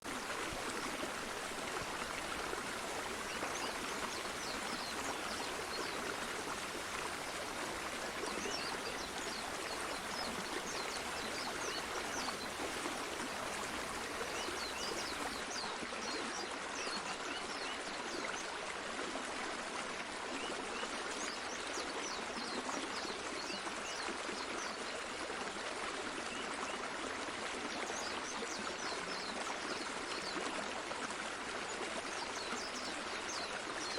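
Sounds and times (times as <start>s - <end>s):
stream of water flowing: 0.0s - 33.9s.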